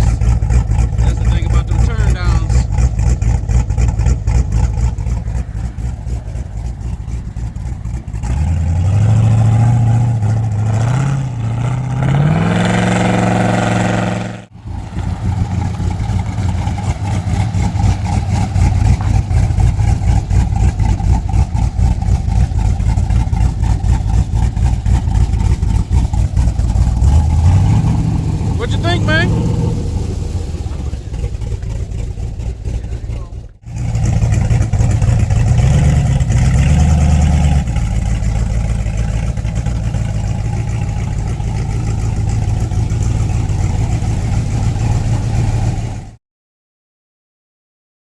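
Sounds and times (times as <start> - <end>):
car engine choppy idle and revving: 0.0 - 46.2.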